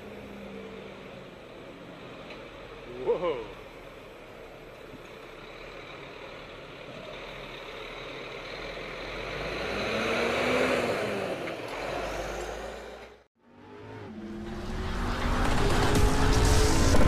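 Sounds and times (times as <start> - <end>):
heavy truck driving by: 0.0 - 17.0.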